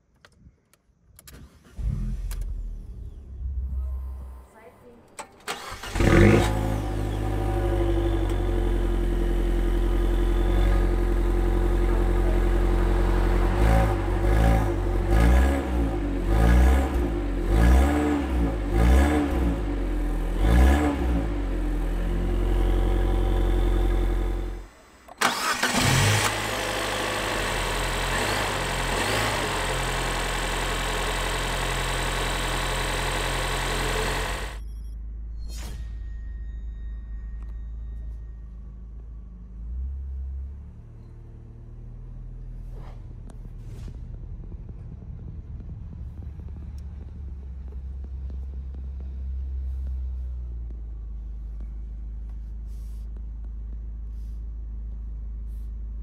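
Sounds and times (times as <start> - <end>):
car engine starting: 1.2 - 34.7, 38.4 - 55.2
car engine idling and revving: 1.2 - 35.2, 37.2 - 56.0.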